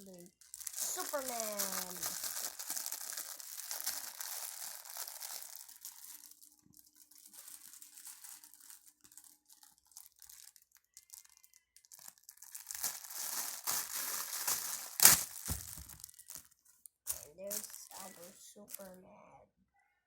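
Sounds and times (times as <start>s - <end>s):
packaging rustling and tearing: 0.0s - 18.9s
faint crackles and ticks: 0.0s - 19.0s.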